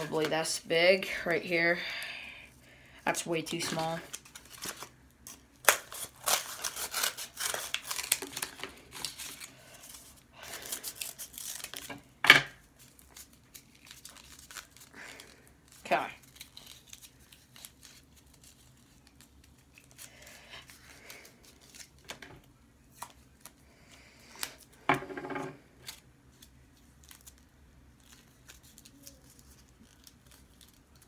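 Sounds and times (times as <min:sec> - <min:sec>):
paper crinkling: 0:03.5 - 0:23.6, 0:25.8 - 0:31.0.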